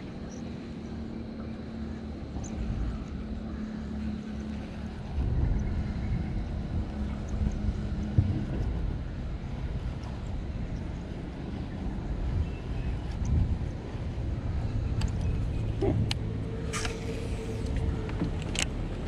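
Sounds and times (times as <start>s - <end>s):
engine humming: 0.0s - 19.0s
low rumble: 0.0s - 19.0s.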